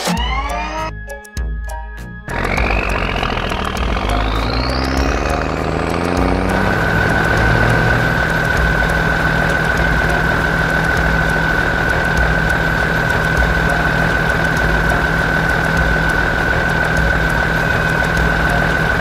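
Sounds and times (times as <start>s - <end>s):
diesel engine running: 2.2s - 19.0s
steady high whine: 2.3s - 19.0s.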